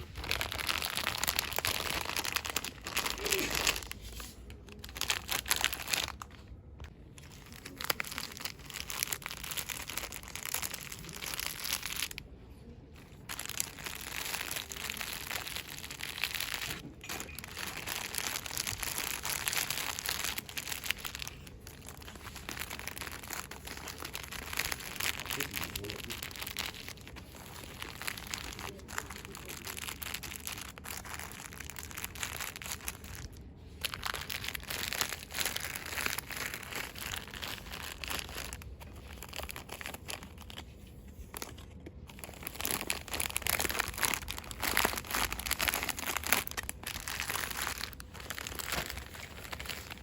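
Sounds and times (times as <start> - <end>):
packaging crinkling by hand: 0.0 - 50.0.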